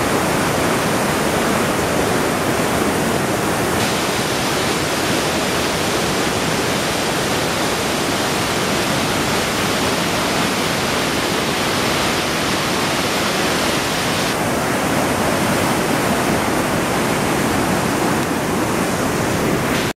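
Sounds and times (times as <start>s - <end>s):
water rushing through dam gate: 0.0s - 19.9s.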